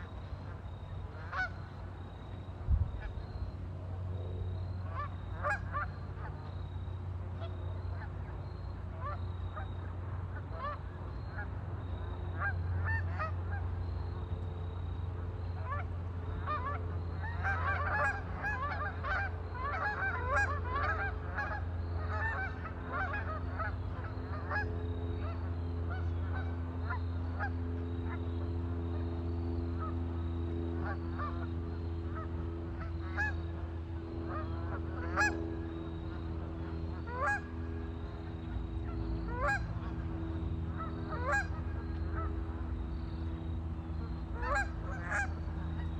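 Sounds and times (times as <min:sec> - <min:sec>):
waterfowl honking: 0:00.0 - 0:03.5, 0:04.8 - 0:06.6, 0:07.4 - 0:14.0, 0:15.4 - 0:29.2, 0:30.7 - 0:43.3, 0:43.9 - 0:45.9
steady low hum: 0:00.0 - 0:45.9.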